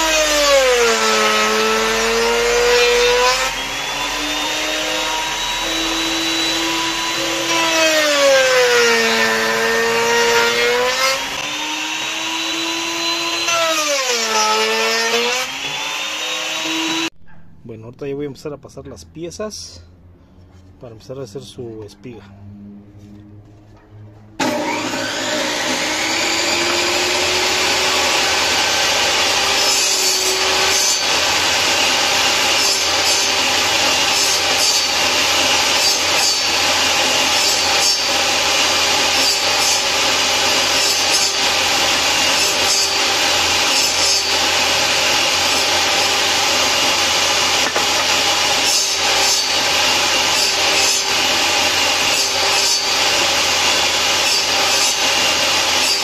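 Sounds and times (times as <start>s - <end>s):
table saw motor running: 0.0s - 17.1s, 24.4s - 56.0s
saw cutting through wood: 0.0s - 17.2s, 24.4s - 56.0s.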